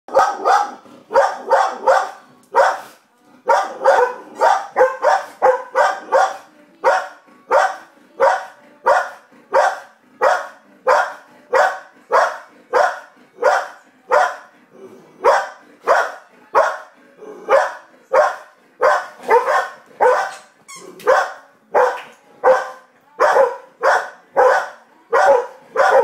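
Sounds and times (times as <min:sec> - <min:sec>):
dog barking: 0:00.1 - 0:02.9, 0:03.5 - 0:14.5, 0:15.2 - 0:16.9, 0:17.5 - 0:20.4, 0:21.0 - 0:26.0.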